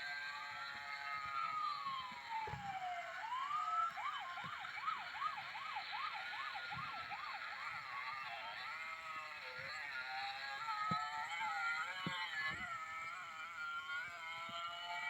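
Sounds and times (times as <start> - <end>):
emergency siren wail and yelp: 0.0 - 15.0.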